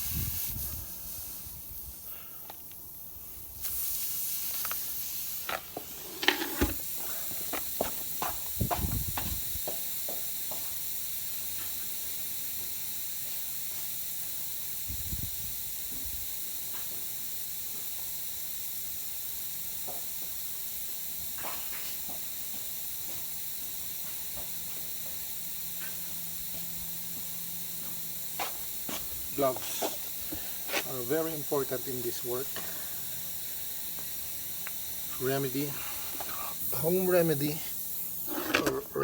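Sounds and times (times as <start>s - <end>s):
air hissing from tyre: 0.0s - 38.8s.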